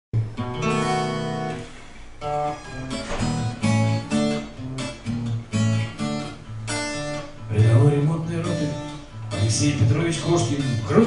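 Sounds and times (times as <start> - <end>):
acoustic guitar strumming chords: 0.2 - 11.0.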